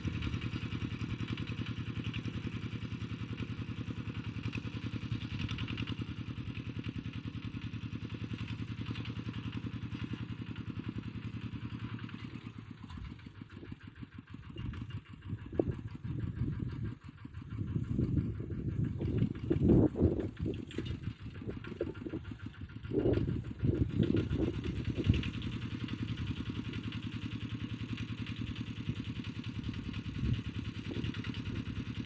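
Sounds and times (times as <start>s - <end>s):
ploughing machine engine running: 0.0s - 32.0s.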